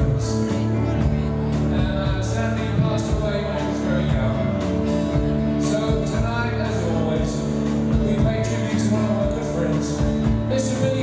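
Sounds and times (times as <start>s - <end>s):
drum kit steady beat: 0.0s - 11.0s
electric bass guitar: 0.0s - 11.0s
electric guitar: 0.0s - 11.0s
keyboards: 0.0s - 11.0s
live rock band playing: 0.0s - 11.0s
man singing lead vocal: 0.0s - 11.0s.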